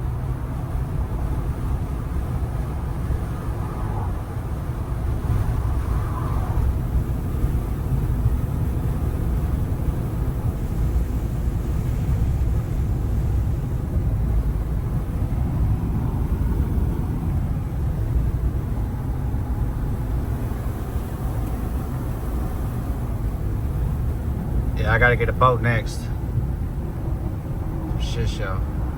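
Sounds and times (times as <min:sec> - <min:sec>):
truck driving on road: 0:00.0 - 0:28.9.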